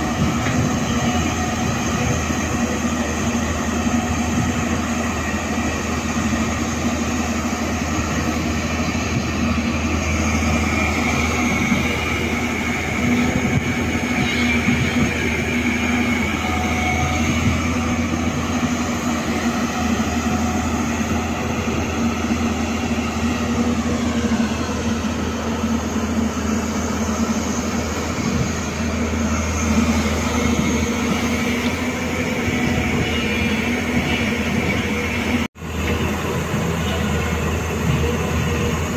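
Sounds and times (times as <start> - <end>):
excavator engine and hydraulics: 0.0 - 38.9.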